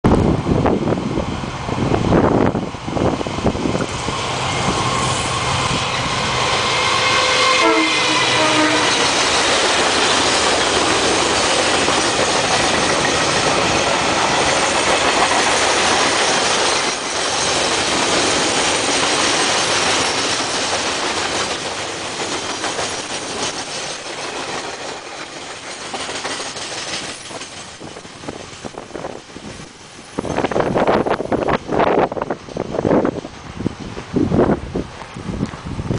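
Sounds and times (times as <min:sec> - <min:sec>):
locomotive engine passing: 0:00.1 - 0:32.2
wagons rumbling over rails: 0:00.1 - 0:35.9.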